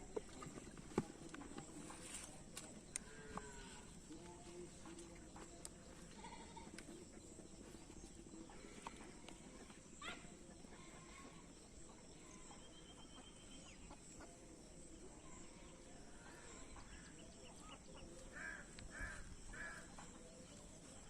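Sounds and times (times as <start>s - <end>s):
bird calls: 0.0s - 21.0s.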